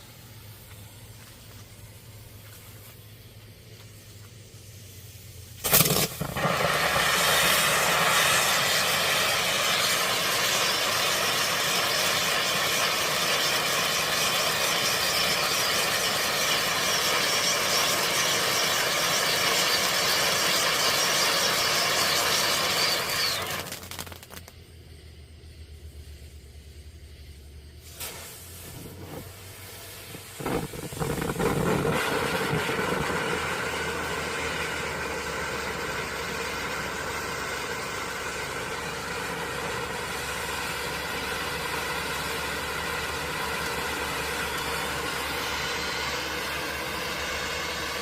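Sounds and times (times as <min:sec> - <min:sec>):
firework fountain hissing: 0:00.0 - 0:48.0
firework igniting pop: 0:05.6 - 0:24.6, 0:27.8 - 0:48.0.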